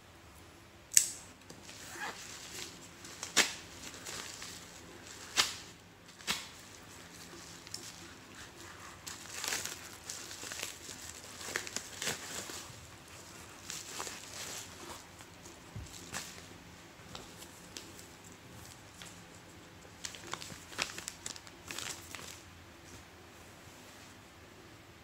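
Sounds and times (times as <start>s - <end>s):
envelope crinkling and tearing: 1.6s - 16.5s, 17.2s - 22.5s.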